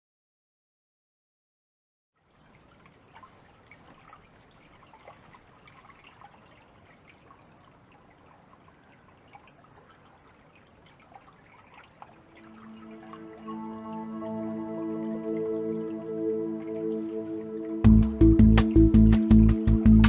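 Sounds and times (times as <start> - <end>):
water trickling and dripping: 2.2 - 20.0.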